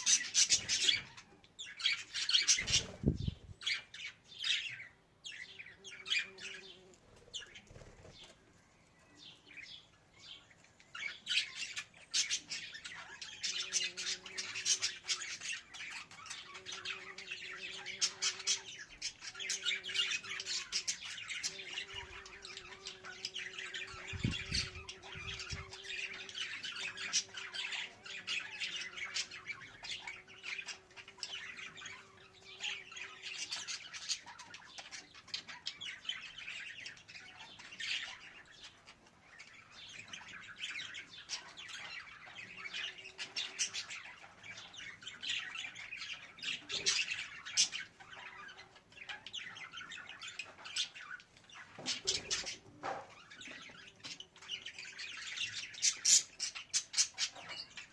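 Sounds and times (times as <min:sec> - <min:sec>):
budgerigars chirping: 0:00.0 - 0:06.7, 0:11.0 - 0:57.9.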